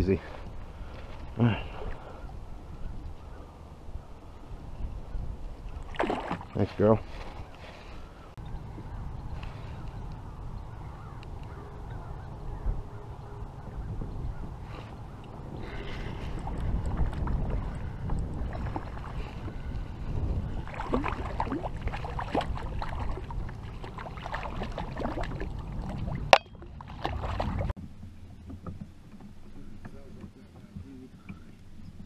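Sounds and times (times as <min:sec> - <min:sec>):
wind on microphone: 0:00.0 - 0:27.8
water splashing around kayak: 0:05.6 - 0:32.0.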